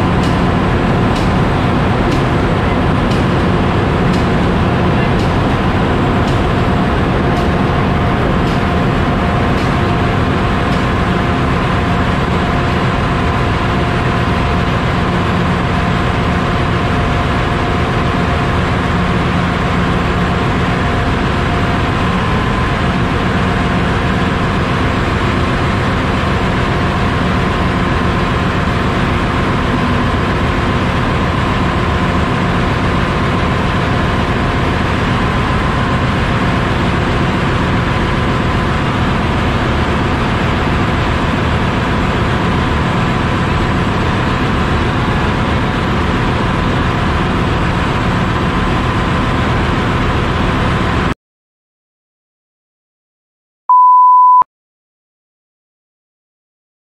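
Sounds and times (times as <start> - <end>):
faint steady machine whine: 0.0 - 51.1
engine room machinery rumble: 0.0 - 51.2.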